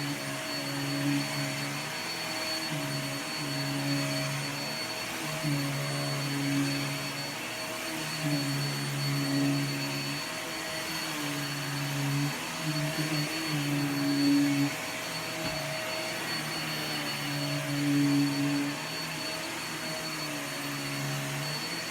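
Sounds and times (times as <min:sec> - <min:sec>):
vacuum cleaner motor whine: 0:00.0 - 0:21.9.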